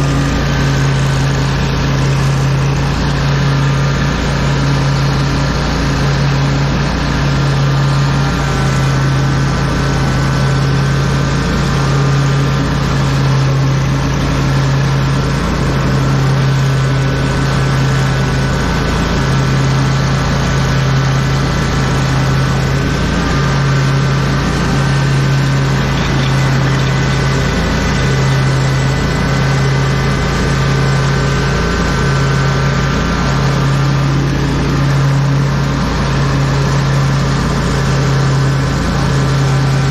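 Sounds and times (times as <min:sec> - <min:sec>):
lawn mower engine droning: 0:00.0 - 0:39.9.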